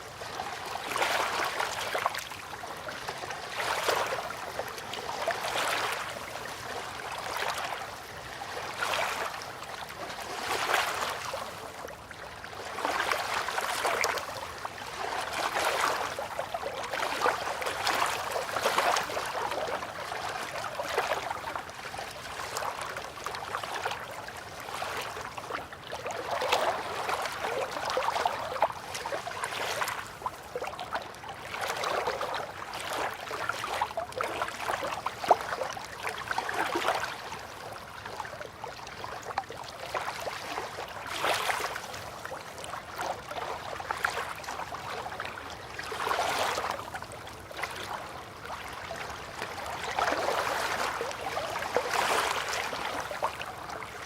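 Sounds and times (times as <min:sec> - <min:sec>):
river water lapping and trickling: 0:00.0 - 0:54.0
small water splashes: 0:00.0 - 0:54.0.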